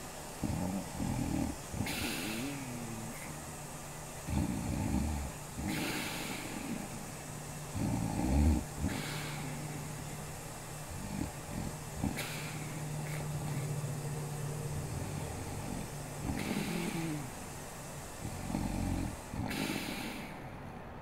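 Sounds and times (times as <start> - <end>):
woman snoring: 0.0 - 3.4, 4.2 - 17.6, 18.2 - 20.7.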